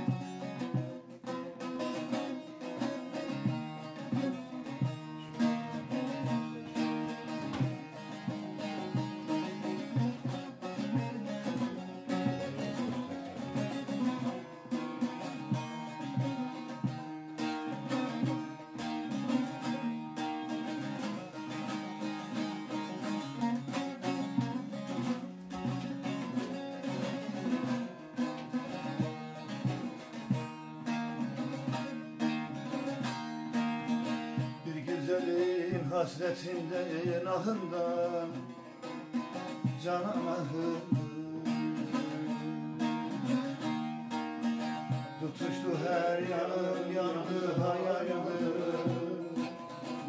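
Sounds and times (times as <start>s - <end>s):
long-necked lute with plectrum strokes: 0.0s - 50.0s.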